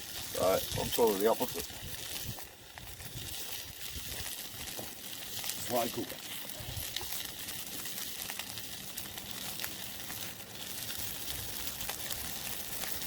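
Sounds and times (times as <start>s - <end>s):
sausages sizzling: 0.0s - 13.0s
sharp crackles of coals: 0.0s - 13.0s.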